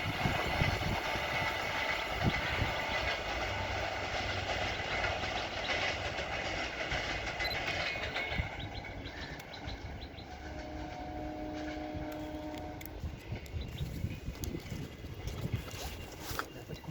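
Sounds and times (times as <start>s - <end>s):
train rumbling: 0.0s - 16.9s
wheels clattering over rail joints: 0.0s - 16.9s.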